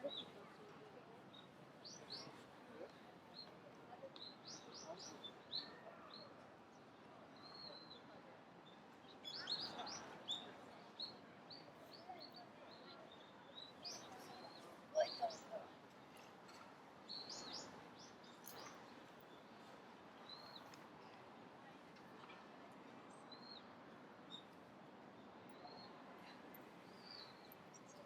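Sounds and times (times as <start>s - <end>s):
faint background noise: 0.0s - 28.0s.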